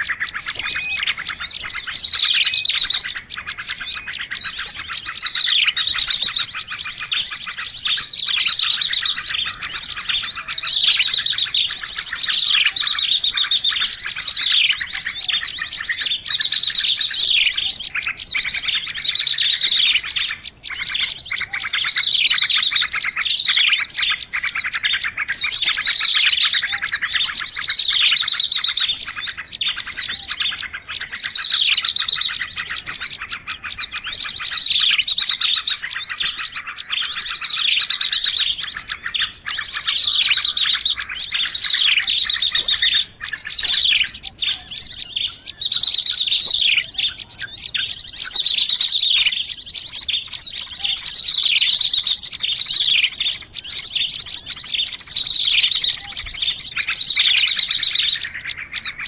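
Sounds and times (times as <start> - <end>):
small songbirds chirping: 0.0 - 59.0.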